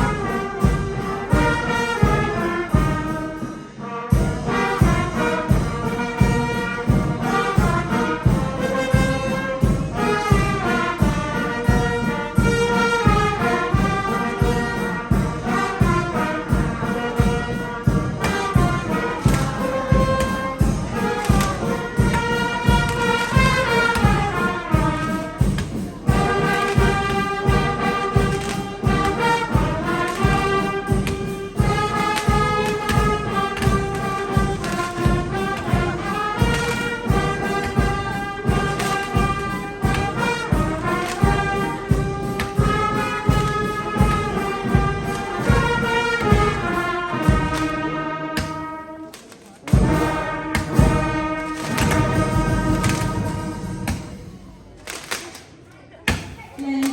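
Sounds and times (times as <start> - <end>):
percussion beat: 0.0 - 55.4
brass band playing a hymn: 0.0 - 55.9.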